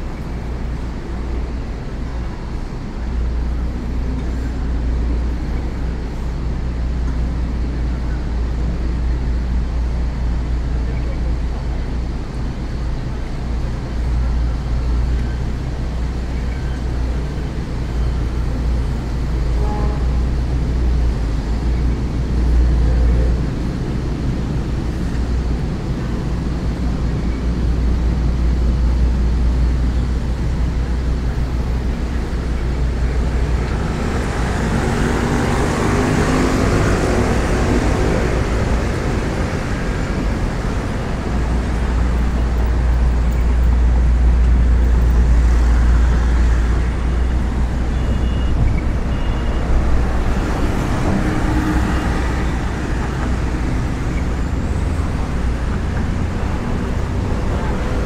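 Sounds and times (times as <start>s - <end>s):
street traffic rumbling: 0.0s - 58.0s.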